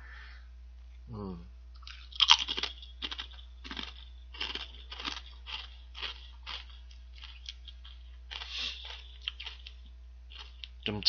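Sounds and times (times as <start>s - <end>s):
potato chips crunched in mouth: 1.8s - 11.0s.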